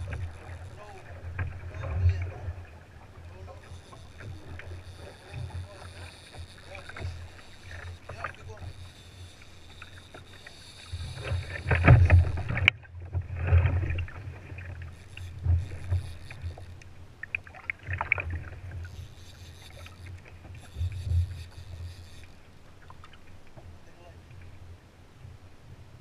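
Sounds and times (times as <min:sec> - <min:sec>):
water splashing against kayak: 0:00.0 - 0:24.7.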